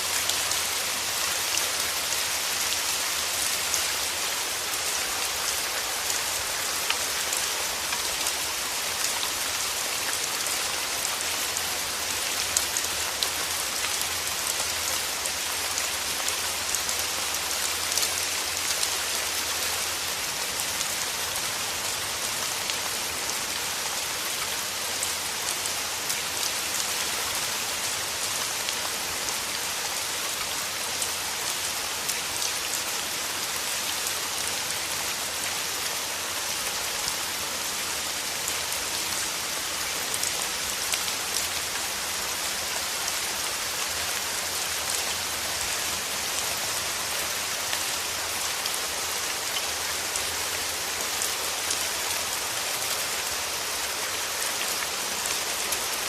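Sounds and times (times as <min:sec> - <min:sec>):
rain falling through trees: 0:00.0 - 0:56.0.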